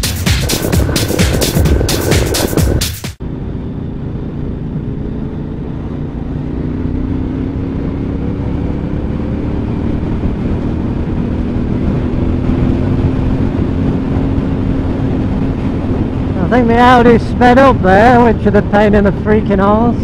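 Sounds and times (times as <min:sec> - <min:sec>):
low rush: 0:00.0 - 0:20.0
motorcycle engine running: 0:00.0 - 0:20.0.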